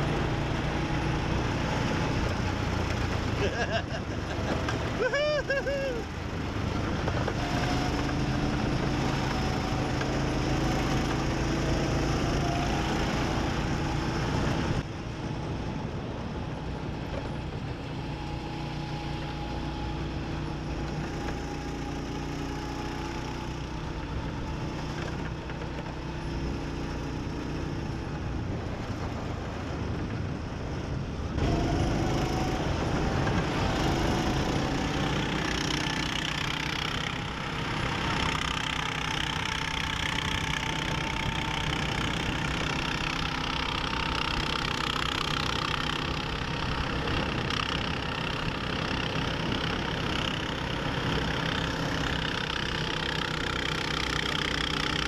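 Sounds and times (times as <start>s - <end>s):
go-kart engines running: 0.0s - 55.0s.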